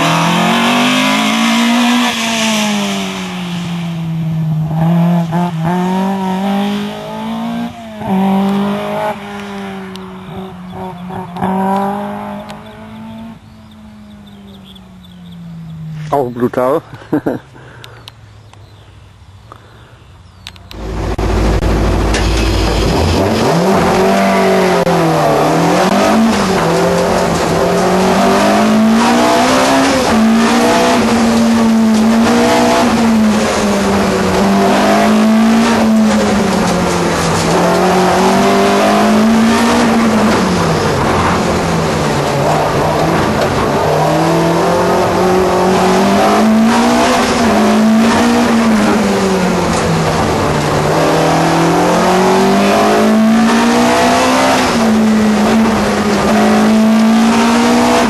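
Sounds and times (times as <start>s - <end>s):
racing car engine revving: 0.0s - 3.8s, 4.6s - 13.4s, 20.7s - 58.0s.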